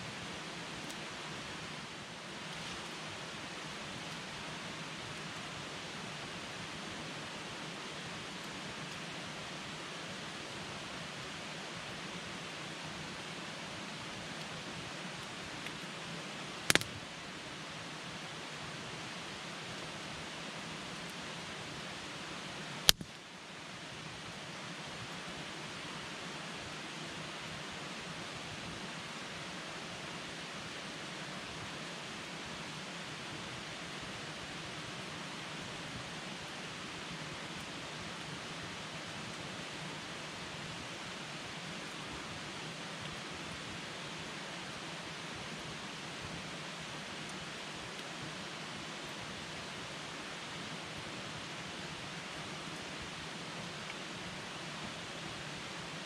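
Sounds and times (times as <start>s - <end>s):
campfire burning: 0.1s - 28.0s, 29.1s - 56.0s.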